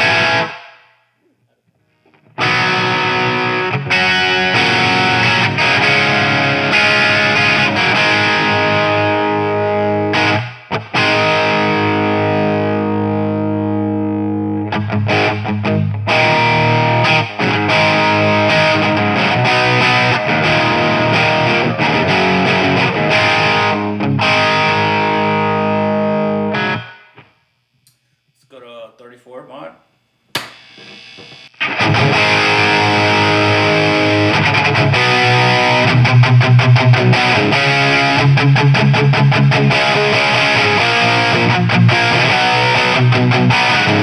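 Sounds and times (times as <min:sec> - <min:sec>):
distorted electric guitar chords: 0:00.0 - 0:00.8, 0:01.7 - 0:27.3, 0:30.4 - 0:44.0.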